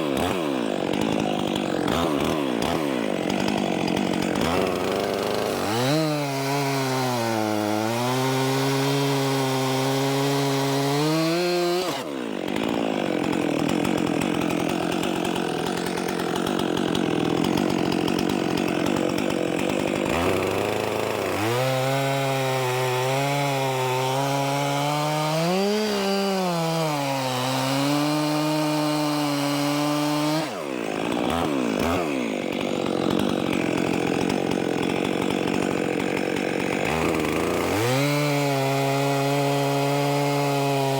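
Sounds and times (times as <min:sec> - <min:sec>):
chainsaw cutting logs: 0:00.0 - 0:40.9.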